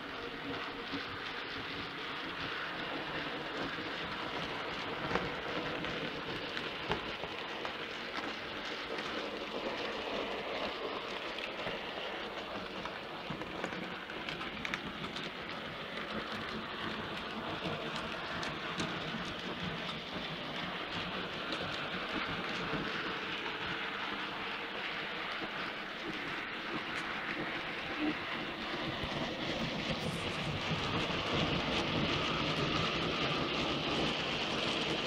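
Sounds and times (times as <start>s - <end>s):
model train running on track: 0.0s - 35.0s.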